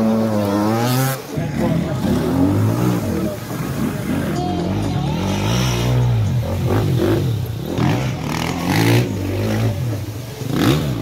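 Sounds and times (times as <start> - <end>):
dirt bike engine revving: 0.0 - 11.0
mud and water spraying: 0.0 - 11.0.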